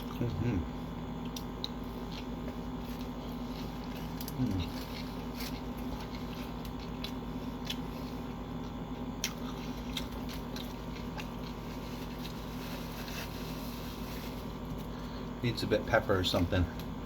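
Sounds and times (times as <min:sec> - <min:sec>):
person chewing: 0:00.0 - 0:15.4
low steady hum: 0:00.0 - 0:17.0.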